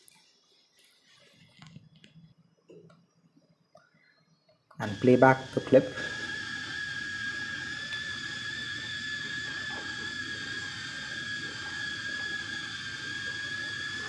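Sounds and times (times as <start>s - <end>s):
drone motors whining: 2.7s - 14.0s.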